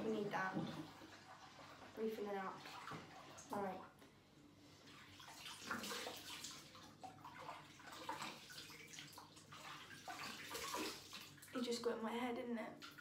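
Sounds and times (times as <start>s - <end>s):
water splashing in sink: 0.0s - 4.0s, 4.9s - 12.0s, 12.7s - 13.0s.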